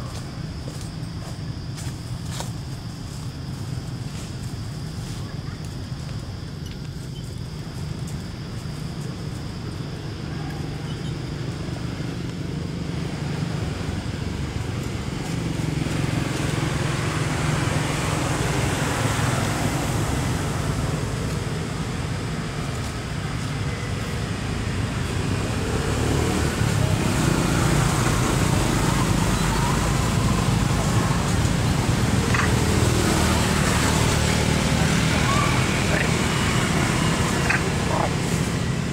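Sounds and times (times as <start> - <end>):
road traffic engine rumble: 0.0 - 38.9.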